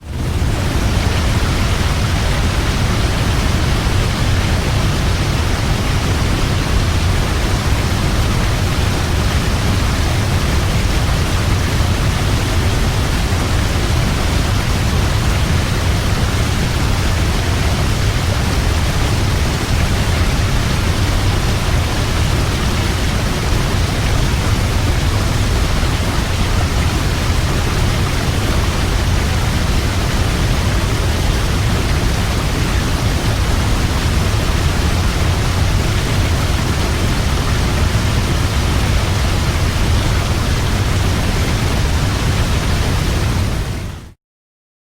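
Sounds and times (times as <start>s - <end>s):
large waterfall pouring: 0.0s - 44.2s.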